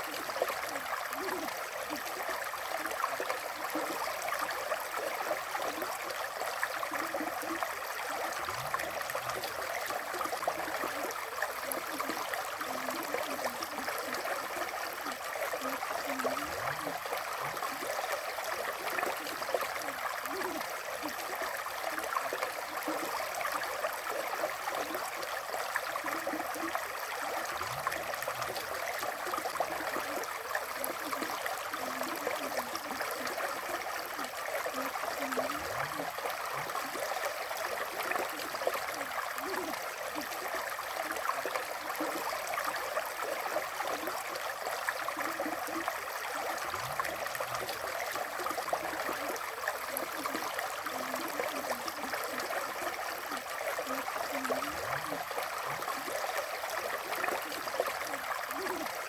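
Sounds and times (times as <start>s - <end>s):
river water flowing and gurgling: 0.0s - 59.0s.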